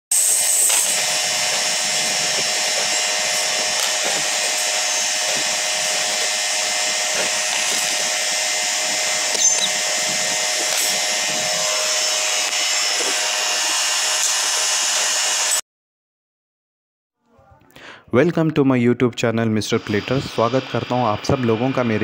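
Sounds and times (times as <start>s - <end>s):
electric motor machine whirring: 0.1s - 15.6s, 19.6s - 22.0s.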